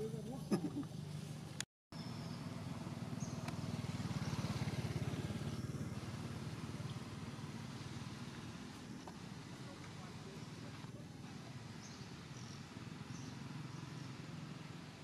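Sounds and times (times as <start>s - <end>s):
small engine running: 2.0s - 15.0s.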